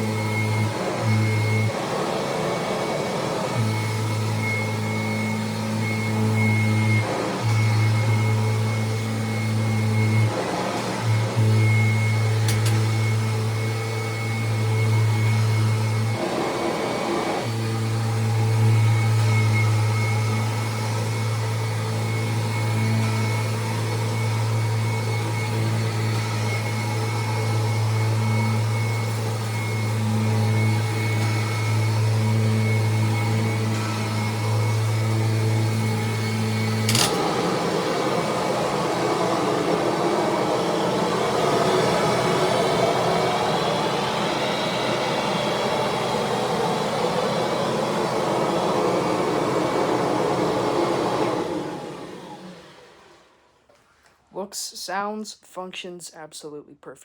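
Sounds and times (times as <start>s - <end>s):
vacuum cleaner hum and whine: 0.0s - 53.7s.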